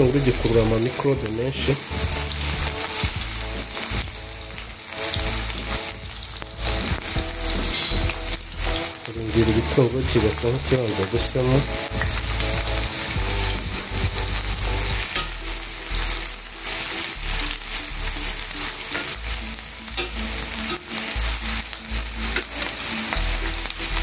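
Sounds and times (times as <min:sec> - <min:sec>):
metal spatula stirring in pan: 0:00.0 - 0:24.0
onion sizzling in hot oil: 0:00.0 - 0:24.0.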